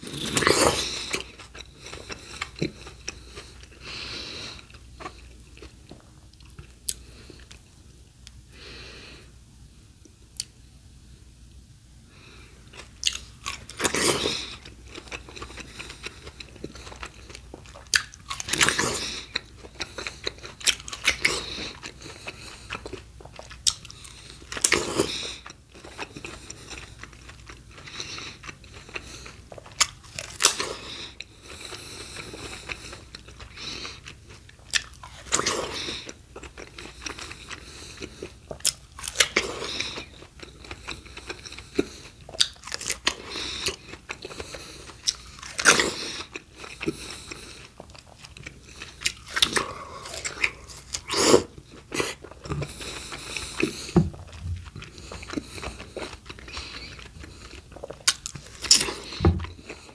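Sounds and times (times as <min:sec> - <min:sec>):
crunchy chewing: 0:00.0 - 0:07.7, 0:12.3 - 0:59.9.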